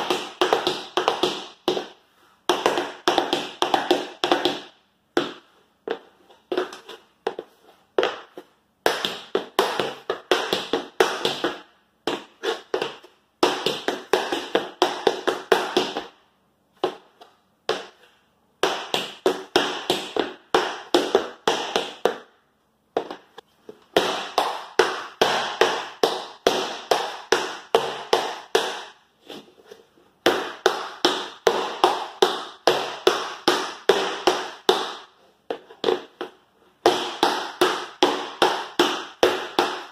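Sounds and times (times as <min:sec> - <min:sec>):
tap shoes clicking on wooden floor: 0:00.0 - 0:16.1, 0:16.8 - 0:22.3, 0:23.0 - 0:29.0, 0:30.2 - 0:39.9.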